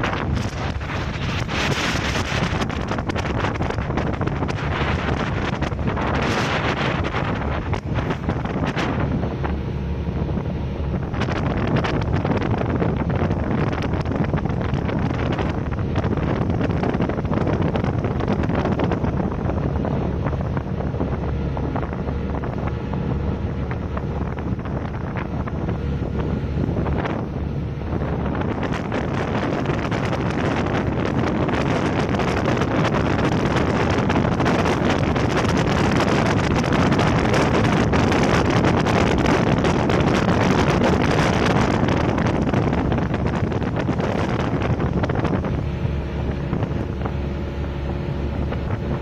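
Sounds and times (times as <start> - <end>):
boat engine droning: 0.0 - 49.0
water rushing past hull: 0.0 - 49.0
wind buffeting microphone: 0.0 - 49.0.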